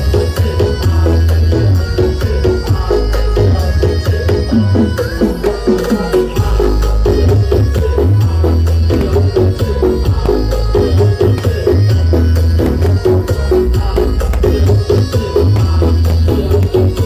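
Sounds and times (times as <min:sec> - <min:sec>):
loud bass-heavy music with drums: 0:00.0 - 0:17.0.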